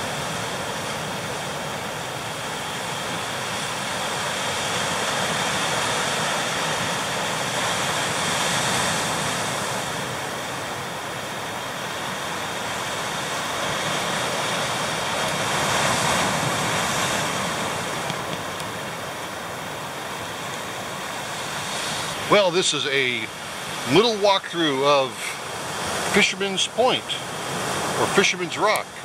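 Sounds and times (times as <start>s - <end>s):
surf crashing on rocks: 0.0s - 29.0s.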